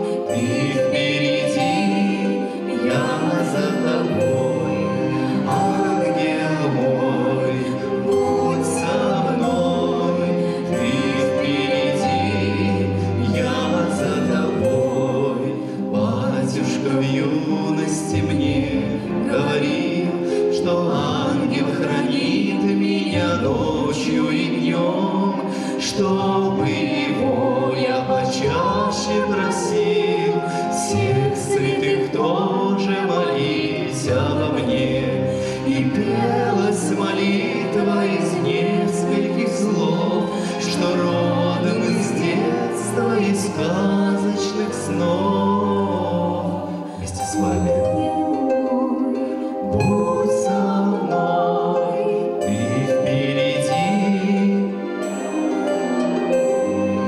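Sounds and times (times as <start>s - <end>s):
woman and man singing duet: 0.0s - 55.3s
instrumental accompaniment: 0.0s - 57.0s.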